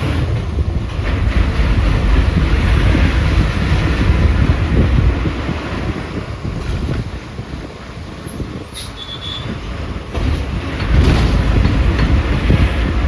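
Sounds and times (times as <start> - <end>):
moving bus rumble: 0.0 - 13.0
wind buffeting microphone: 0.0 - 13.0.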